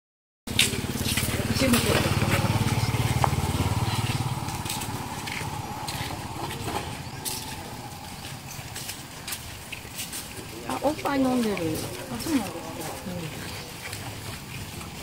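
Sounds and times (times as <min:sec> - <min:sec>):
motor engine humming: 0:00.5 - 0:15.0.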